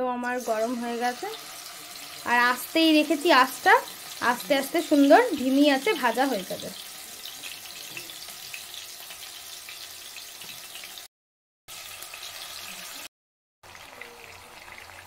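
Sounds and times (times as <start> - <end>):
chicken frying in hot oil: 0.2 - 11.1, 11.7 - 15.0.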